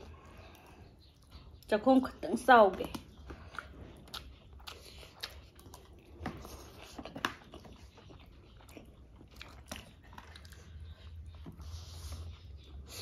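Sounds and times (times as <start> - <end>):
people chewing and eating: 0.0 - 13.0.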